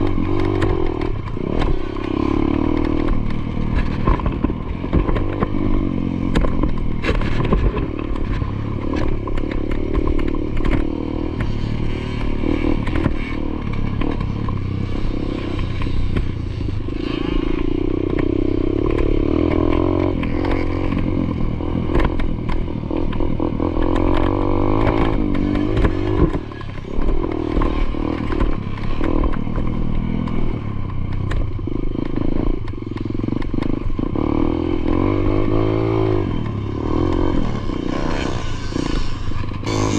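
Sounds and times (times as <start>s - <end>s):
dirt bike engine revving: 0.0s - 30.7s, 31.3s - 39.9s.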